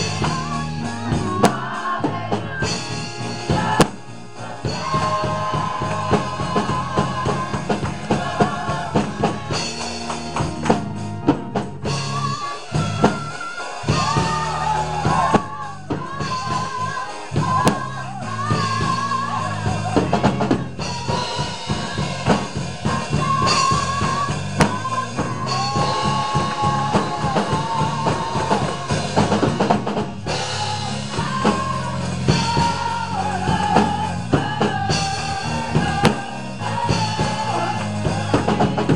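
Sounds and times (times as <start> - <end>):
drum kit bass and keyboard: 0.0 - 38.9
gospel choir singing: 0.0 - 38.9.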